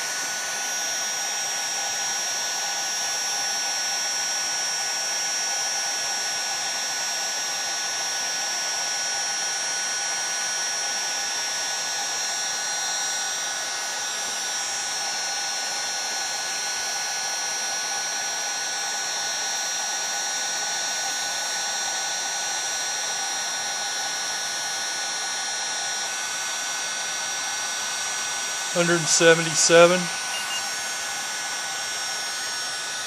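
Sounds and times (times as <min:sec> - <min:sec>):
heat gun blowing air: 0:00.0 - 0:33.0.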